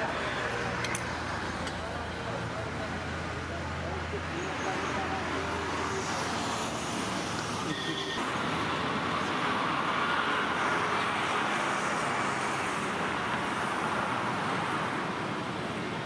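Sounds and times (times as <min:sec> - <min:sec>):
road traffic rush: 0:00.0 - 0:16.0.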